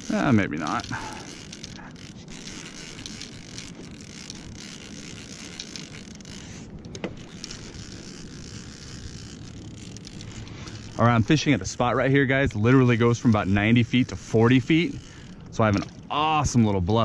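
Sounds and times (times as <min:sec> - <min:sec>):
fishing reel cranking: 0:00.0 - 0:17.0
wind and water hiss: 0:00.0 - 0:17.0.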